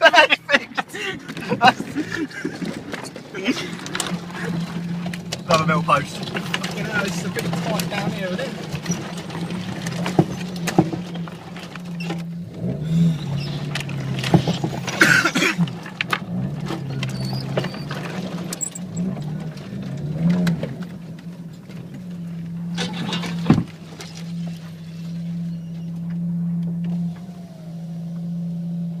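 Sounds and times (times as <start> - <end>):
car engine running low hum: 0.0 - 29.0
car bodywork scraping and knocking: 0.8 - 28.3.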